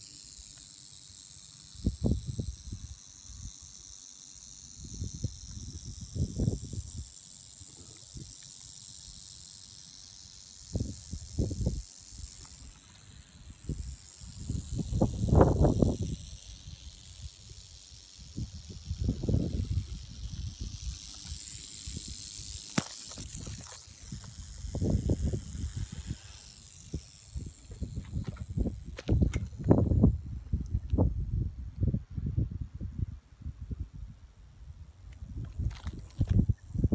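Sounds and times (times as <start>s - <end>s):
rattlesnake rattling: 0.0s - 31.6s, 34.6s - 36.9s.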